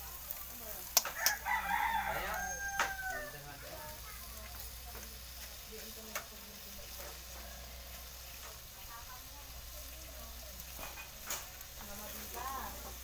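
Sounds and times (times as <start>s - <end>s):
chicken sizzling in a wok: 0.0s - 13.0s.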